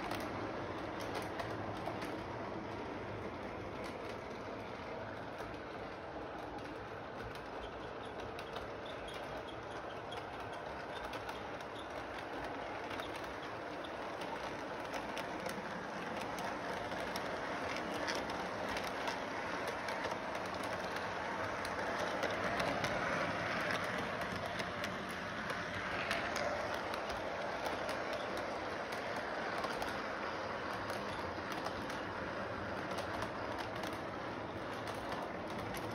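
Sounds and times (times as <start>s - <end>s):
model train motor hum: 0.0s - 35.9s
wheels clicking over rail joints: 0.0s - 35.9s.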